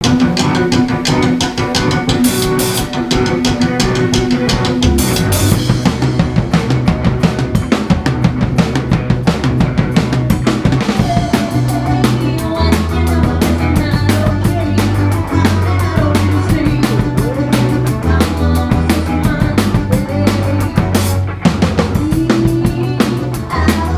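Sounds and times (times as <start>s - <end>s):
drum kit beat: 0.0s - 23.9s
live rock band playing: 0.0s - 23.9s
low bass notes: 0.0s - 23.9s.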